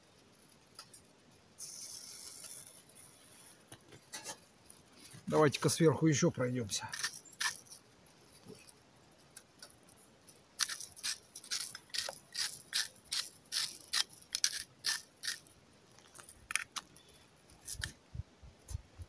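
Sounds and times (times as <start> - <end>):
shaker rattling: 0.0 - 5.2, 6.8 - 8.8, 9.7 - 17.9.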